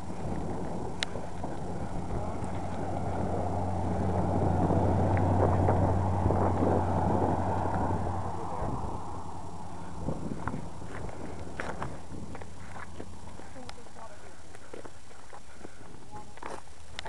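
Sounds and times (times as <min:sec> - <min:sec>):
motor vehicle engine hum: 0:00.0 - 0:17.0.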